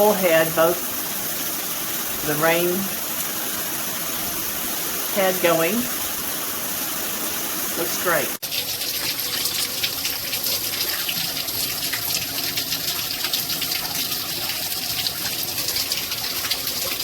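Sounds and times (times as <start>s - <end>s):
shower head spraying water: 0.0s - 17.0s.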